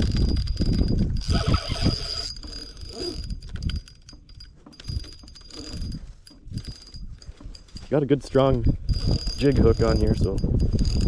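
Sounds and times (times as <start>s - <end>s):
fishing reel whining: 0.0s - 7.8s, 8.9s - 11.0s.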